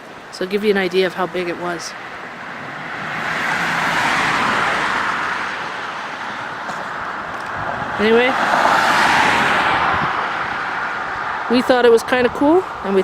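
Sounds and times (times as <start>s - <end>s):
car passing on highway: 0.0s - 13.0s.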